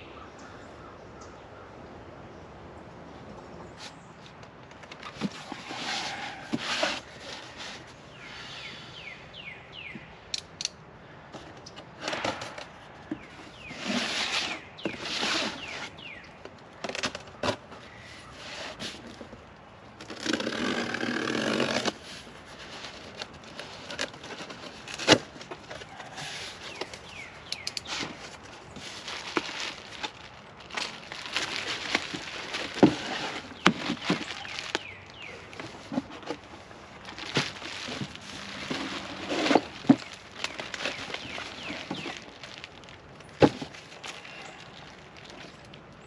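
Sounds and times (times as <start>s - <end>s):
packaging rustling and crinkling: 4.8s - 8.1s, 11.4s - 46.0s.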